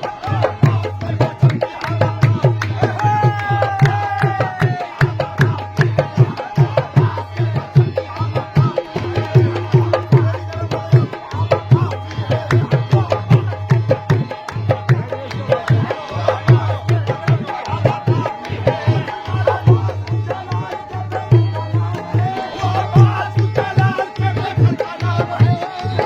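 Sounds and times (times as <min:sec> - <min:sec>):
fast hand drumming: 0:00.0 - 0:26.0.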